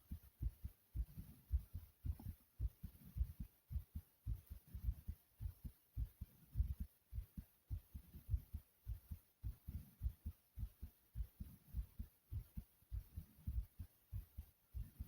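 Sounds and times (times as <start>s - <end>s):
heart beating: 0.0s - 15.0s.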